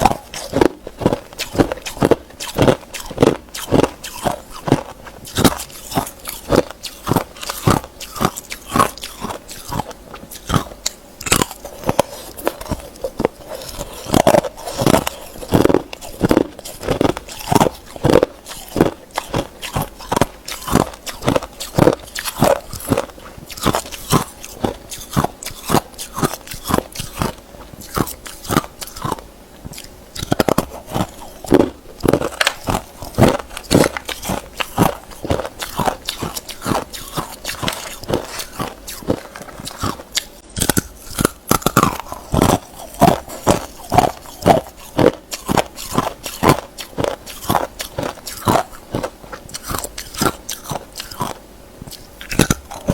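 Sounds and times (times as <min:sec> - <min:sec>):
ice being bitten and chewed: 0:00.0 - 0:52.9.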